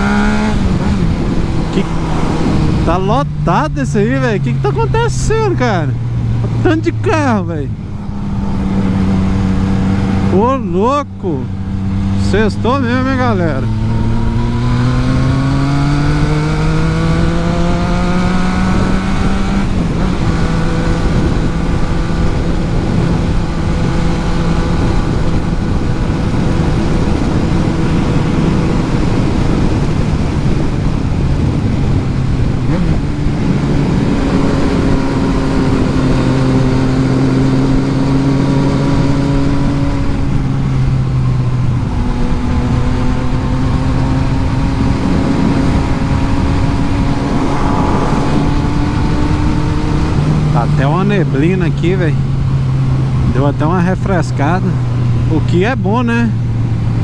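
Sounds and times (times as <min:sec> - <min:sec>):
wind noise rushing: 0:00.0 - 0:10.4, 0:11.1 - 0:38.4, 0:41.3 - 0:50.8
motorcycle engine accelerating: 0:00.0 - 0:57.0.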